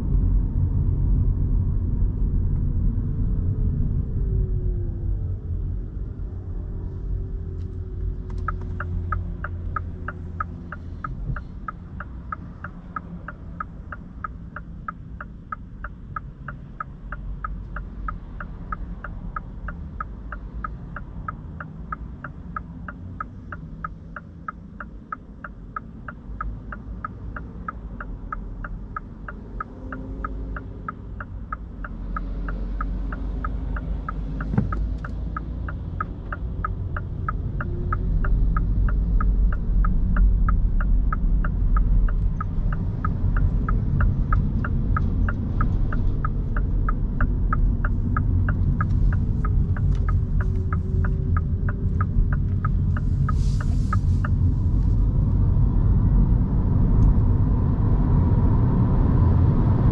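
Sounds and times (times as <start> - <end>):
road and cabin rumble: 0.0 - 59.9
turn signal ticking: 0.1 - 59.9.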